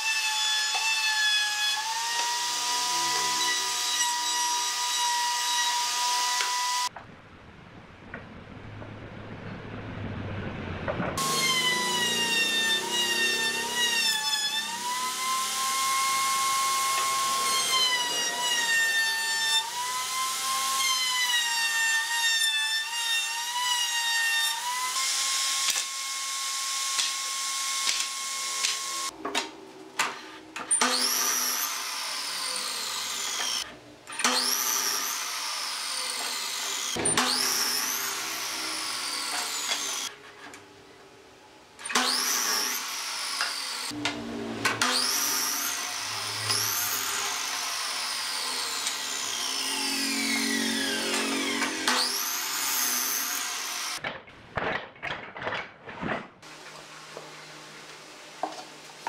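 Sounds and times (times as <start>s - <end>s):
miter saw cutting: 0.0s - 6.9s, 11.2s - 40.4s, 41.8s - 54.0s
table saw ripping wood: 0.0s - 6.9s, 11.2s - 40.6s, 41.8s - 59.0s.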